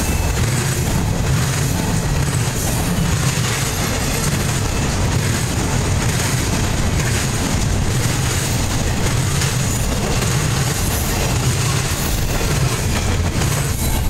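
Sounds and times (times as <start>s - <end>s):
deep wheel-on-rail noise: 0.0s - 14.0s.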